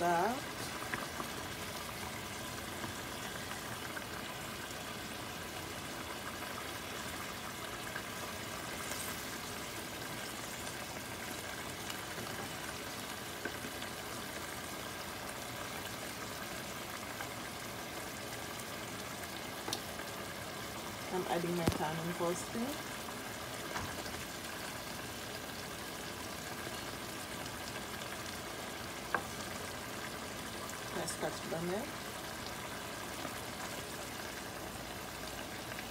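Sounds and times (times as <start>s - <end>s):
stew bubbling and sizzling: 0.0s - 35.9s.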